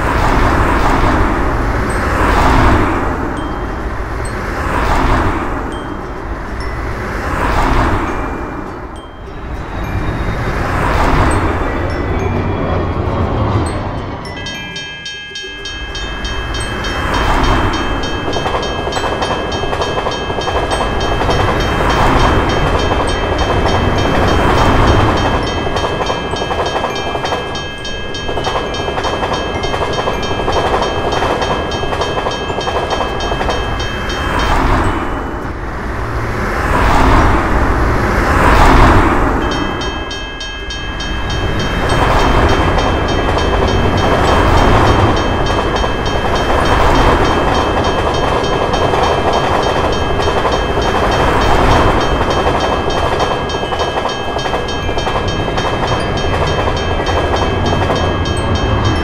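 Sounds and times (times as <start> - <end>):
passenger train rumbling: 0.0 - 59.0
railroad crossing bell ringing: 0.0 - 59.0.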